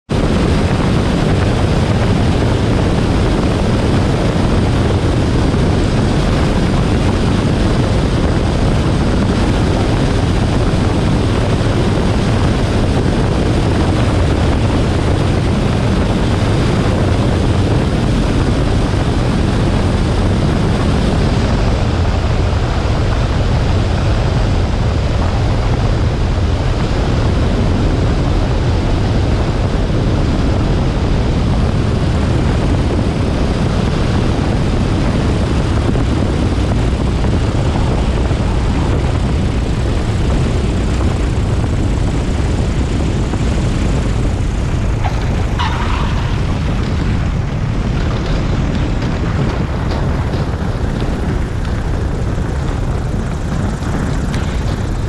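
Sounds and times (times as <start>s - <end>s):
light airplane engine and propeller: 0.0s - 55.0s.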